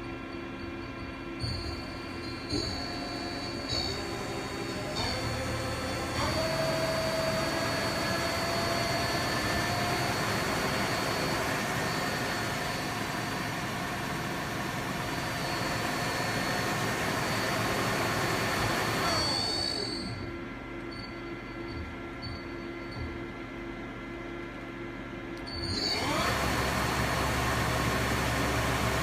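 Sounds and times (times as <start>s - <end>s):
lathe running with high whine: 1.1s - 21.5s, 25.6s - 29.0s.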